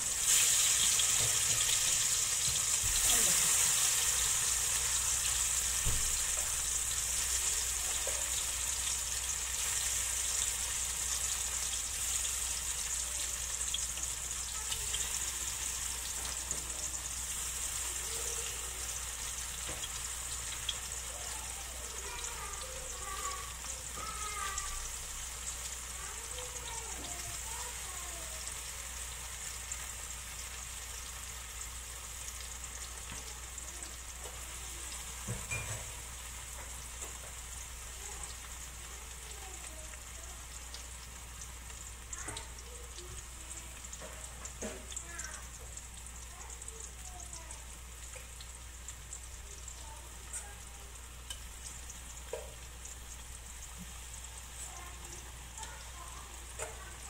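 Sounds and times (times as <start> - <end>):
oil crackles and pops: 0.0 - 57.0
tofu sizzling in oil: 0.0 - 57.0.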